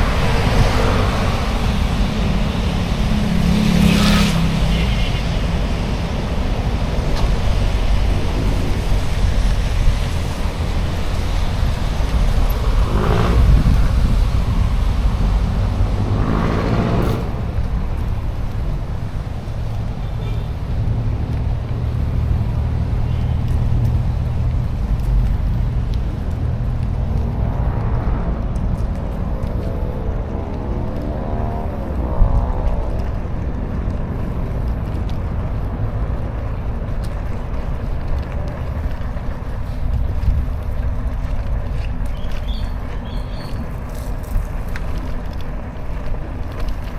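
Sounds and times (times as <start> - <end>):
low rumble of bike riding: 0.0 - 46.9
motor vehicles passing on wet street: 0.0 - 46.9
road traffic: 0.0 - 46.9.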